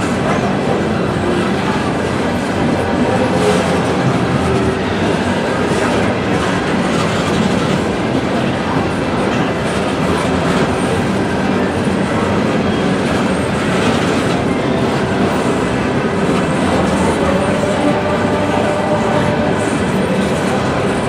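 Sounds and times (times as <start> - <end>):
train cars rumbling and clattering: 0.0 - 21.0.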